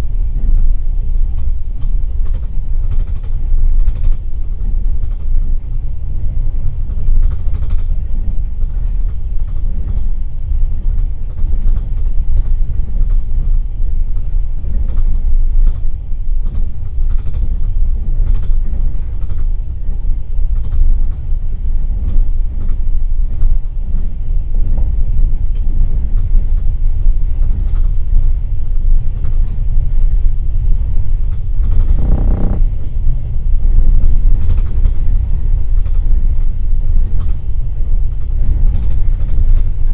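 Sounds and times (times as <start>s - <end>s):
train rumbling: 0.0s - 39.9s
train wheels clicking: 0.0s - 39.9s.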